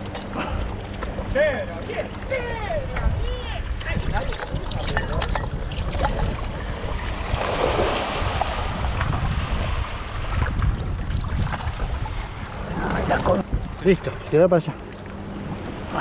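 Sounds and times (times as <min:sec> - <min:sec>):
water sloshing around boat: 0:00.0 - 0:16.0
wind buffeting microphone: 0:00.0 - 0:16.0.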